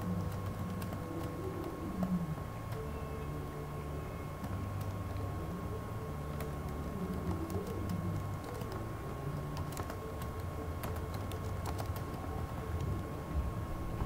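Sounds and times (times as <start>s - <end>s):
keyboard keys clicking: 0.0s - 5.4s, 6.0s - 13.2s
low electrical hum: 0.0s - 14.0s.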